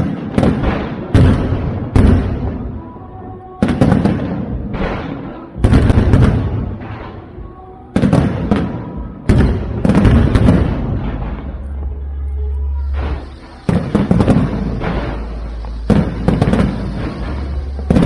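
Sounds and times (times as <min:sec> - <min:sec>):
fireworks bursting: 0:00.0 - 0:18.0
rumbling echo: 0:00.0 - 0:18.0.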